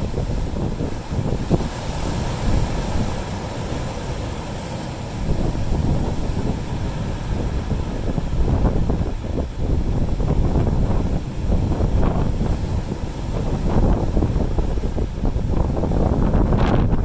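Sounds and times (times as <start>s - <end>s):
sea waves washing against rocks: 0.0s - 17.0s
wind buffeting microphone: 0.0s - 17.0s.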